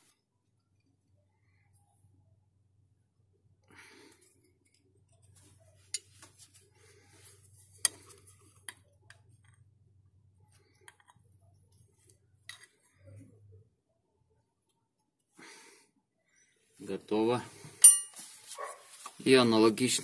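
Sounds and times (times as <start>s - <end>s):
faint low hum: 0.1s - 16.8s.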